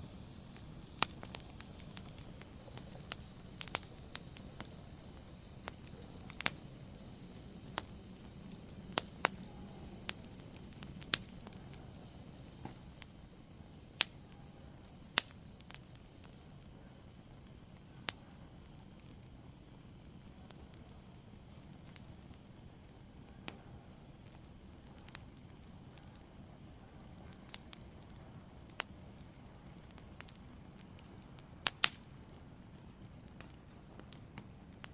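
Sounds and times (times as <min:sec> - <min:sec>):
flames rushing: 0:00.0 - 0:34.9
wood fire pops and crackles: 0:00.0 - 0:34.9.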